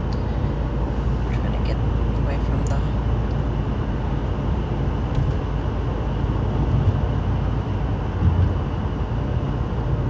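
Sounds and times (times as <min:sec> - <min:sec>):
car interior road rumble: 0:00.0 - 0:10.0.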